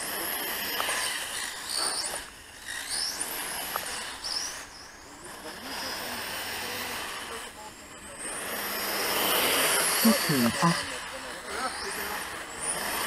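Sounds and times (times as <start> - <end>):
rc car electric motor whining: 0.0 - 13.0.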